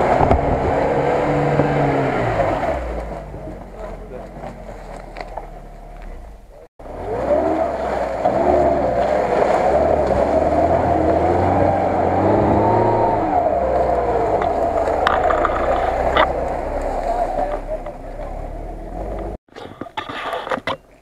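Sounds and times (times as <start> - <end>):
car engine revving: 0.0 - 19.4.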